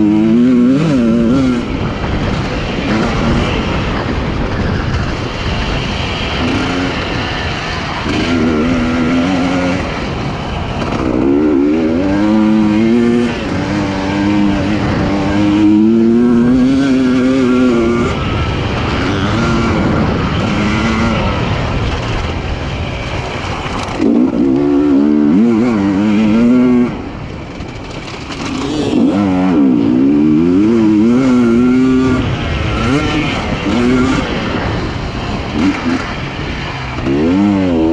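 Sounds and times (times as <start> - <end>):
two-stroke motorcycle engine revving: 0.0 - 37.9.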